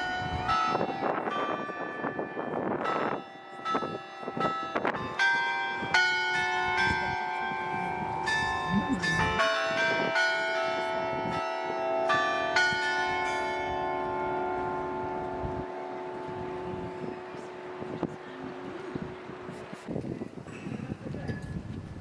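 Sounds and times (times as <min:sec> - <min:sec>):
bells ringing: 0:00.0 - 0:19.9.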